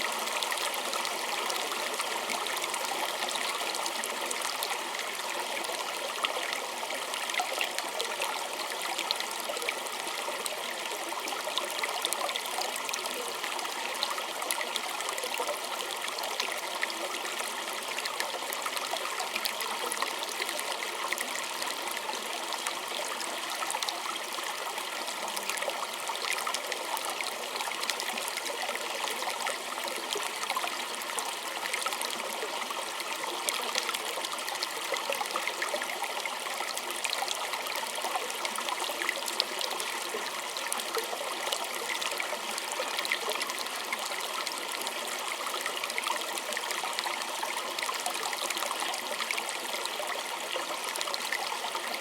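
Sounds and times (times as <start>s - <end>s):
stream trickling over stones: 0.0s - 52.0s.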